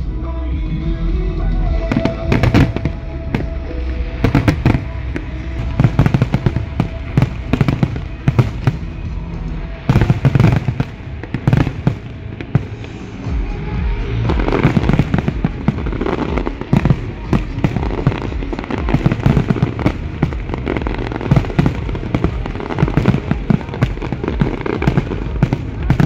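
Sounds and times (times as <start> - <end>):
firework crackling: 1.5 - 26.0.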